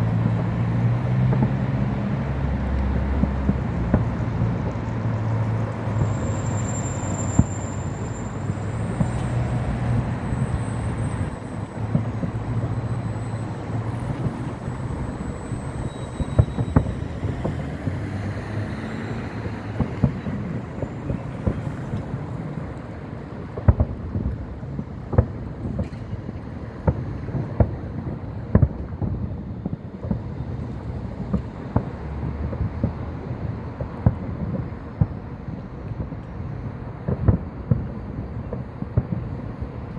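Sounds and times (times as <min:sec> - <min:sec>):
fireworks bangs and booms: 0:00.0 - 0:39.9
traffic-like rumble and hiss: 0:00.0 - 0:39.9.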